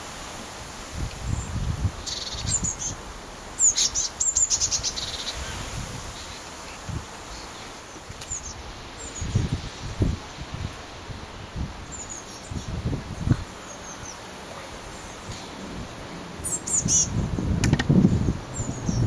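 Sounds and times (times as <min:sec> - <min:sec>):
wind rumbling on microphone: 0:00.0 - 0:19.0
blue tits calling: 0:01.2 - 0:19.0.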